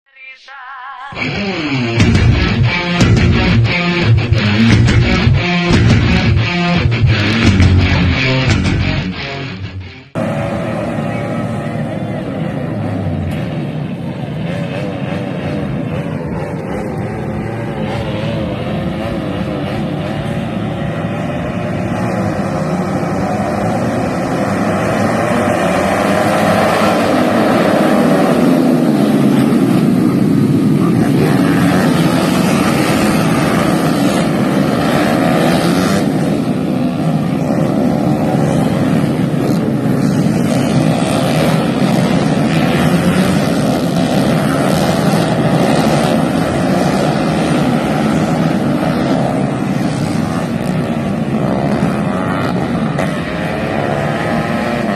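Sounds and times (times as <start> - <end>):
motorcycles revving: 1.1 - 54.9.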